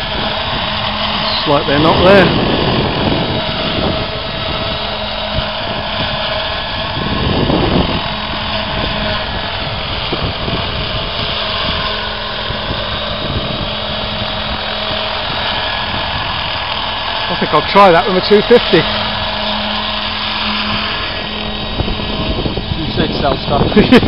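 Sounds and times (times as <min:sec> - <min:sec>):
model helicopter engine and rotor: 0:00.0 - 0:24.0.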